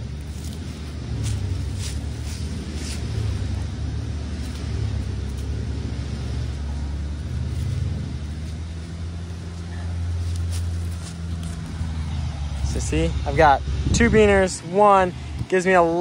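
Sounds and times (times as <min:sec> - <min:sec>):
engine hum: 0:00.0 - 0:16.0
traffic rumble: 0:00.0 - 0:16.0.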